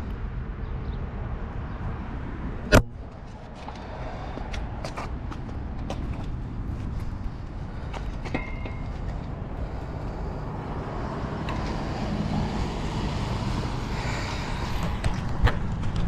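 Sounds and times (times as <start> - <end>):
bike road noise: 0.0 - 16.0
passing traffic: 0.0 - 16.0.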